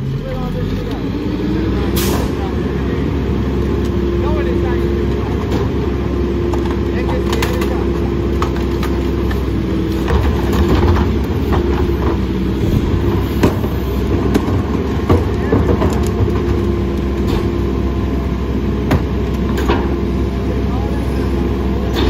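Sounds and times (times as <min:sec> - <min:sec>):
garbage truck engine droning: 0:00.0 - 0:22.0
trash carts knocking and clattering: 0:03.3 - 0:22.0.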